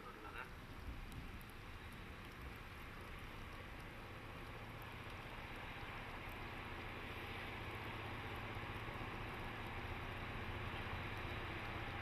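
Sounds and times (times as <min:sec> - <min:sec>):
locomotive diesel engine rumble: 0:01.3 - 0:12.0.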